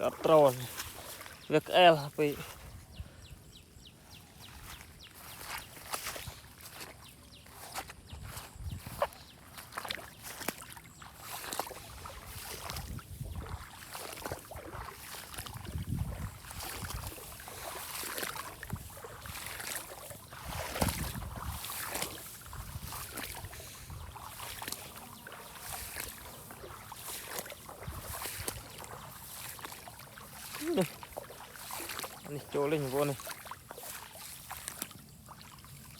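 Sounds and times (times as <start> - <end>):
water splashing and sloshing: 0.0 - 35.9.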